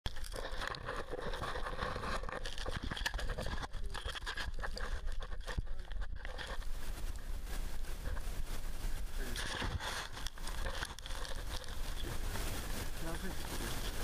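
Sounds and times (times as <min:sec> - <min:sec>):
footsteps crunching on gravel: 0:00.1 - 0:14.0
gear rustling: 0:00.1 - 0:14.0.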